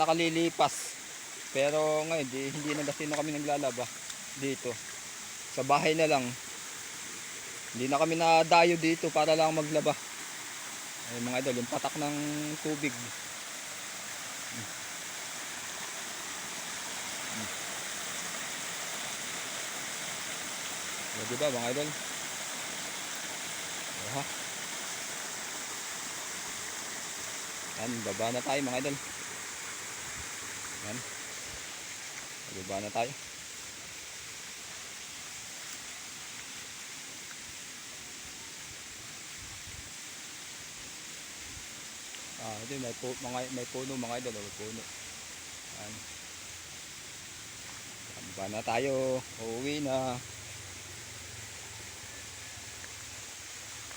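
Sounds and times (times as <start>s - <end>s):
small waterfall splashing: 0.0s - 53.9s.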